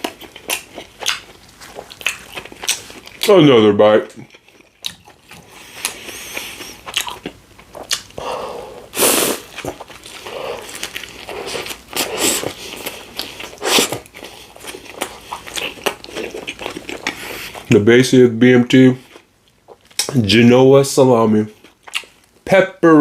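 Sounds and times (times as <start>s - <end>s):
person chewing a sandwich: 0.0s - 3.4s, 4.0s - 17.8s, 19.0s - 20.3s, 21.5s - 22.4s.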